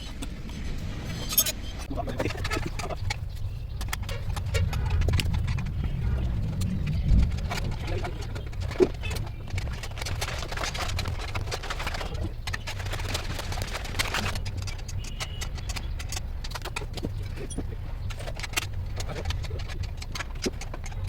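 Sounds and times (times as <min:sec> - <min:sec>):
low rumble: 0:00.0 - 0:21.0
metallic clicks and clinks: 0:02.2 - 0:21.0.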